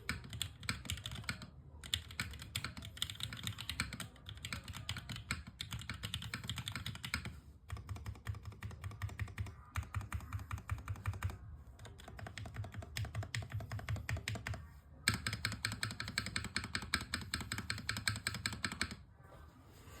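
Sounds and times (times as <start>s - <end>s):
mechanical keyboard typing: 0.0s - 19.0s.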